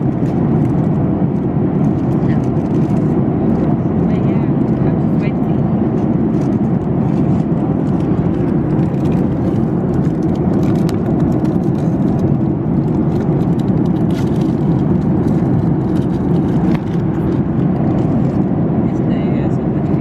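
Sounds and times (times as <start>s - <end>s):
vehicle interior rumble: 0.0s - 20.0s.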